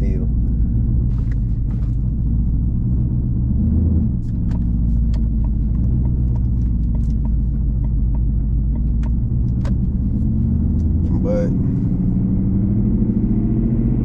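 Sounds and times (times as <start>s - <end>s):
car engine rumbling while driving: 0.0s - 14.0s.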